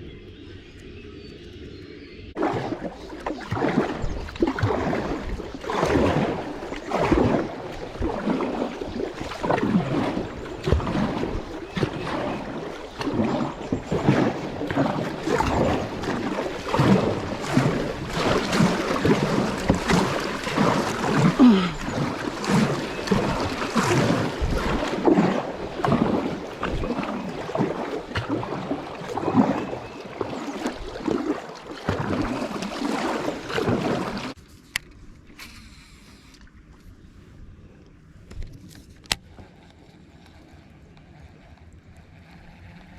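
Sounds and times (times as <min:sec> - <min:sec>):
water splashing against kayak: 0:02.4 - 0:42.9.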